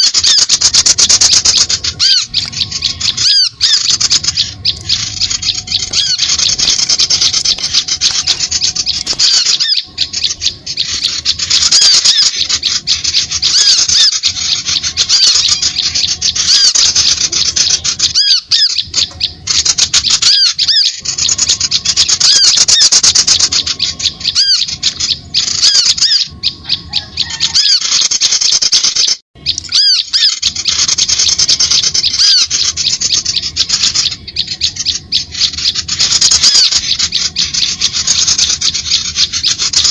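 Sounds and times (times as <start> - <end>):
high rapid bird chirps: 0.0 - 39.9.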